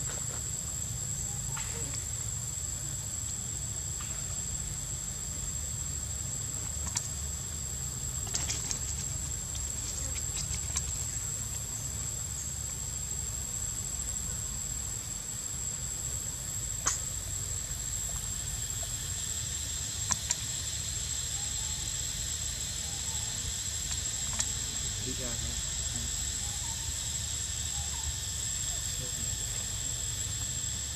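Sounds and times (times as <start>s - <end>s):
high-pitched insect drone: 0.0s - 30.9s.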